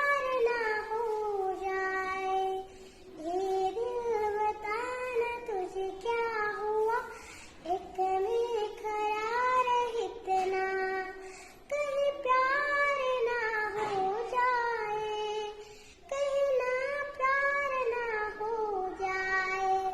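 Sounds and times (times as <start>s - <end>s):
girl singing: 0.0s - 19.9s.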